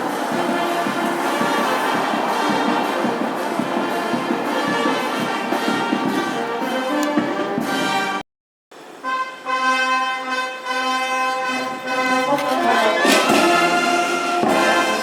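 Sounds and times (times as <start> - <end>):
brass band playing: 0.0 - 8.2, 8.9 - 15.0.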